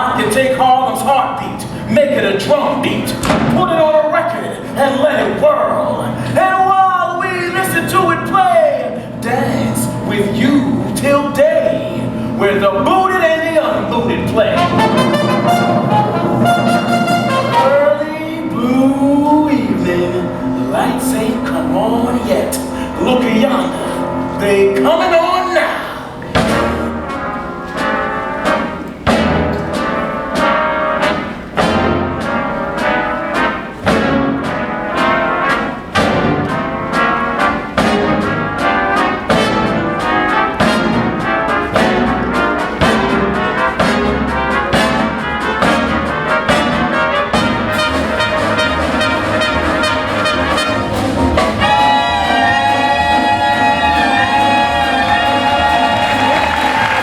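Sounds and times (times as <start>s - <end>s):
brass section chords: 0.0s - 57.0s
jazz big band playing: 0.0s - 57.0s.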